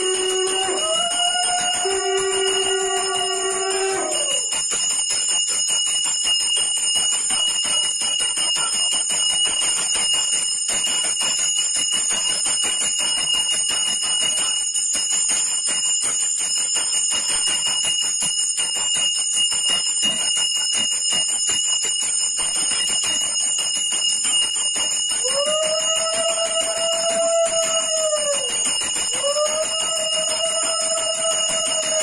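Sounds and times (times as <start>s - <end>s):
hand bell ringing rapidly: 0.0s - 32.0s.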